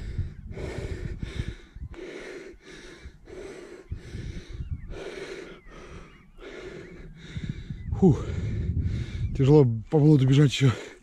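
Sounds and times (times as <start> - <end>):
man panting hard: 0.0 - 9.4, 10.7 - 11.0.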